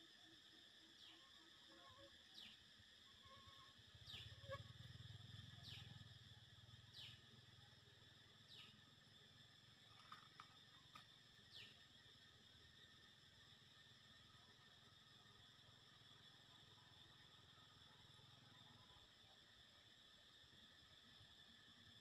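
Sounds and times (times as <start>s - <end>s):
high insect-like drone: 0.0s - 22.0s.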